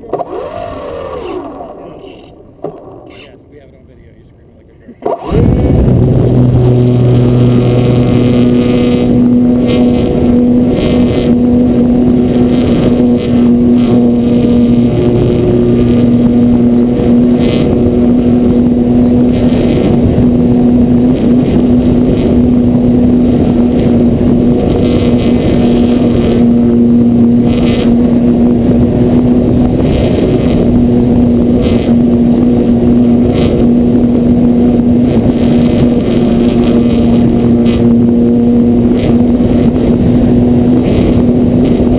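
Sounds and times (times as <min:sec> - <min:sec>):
electric motor whine: 0:00.0 - 0:03.5, 0:05.0 - 0:41.9
propeller wash and airflow: 0:00.0 - 0:41.9.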